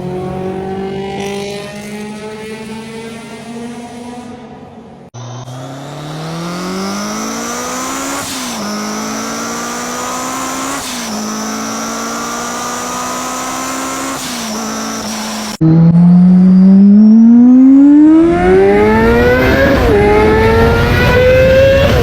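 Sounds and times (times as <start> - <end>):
car engine accelerating hard: 0.0 - 4.5, 5.1 - 22.0.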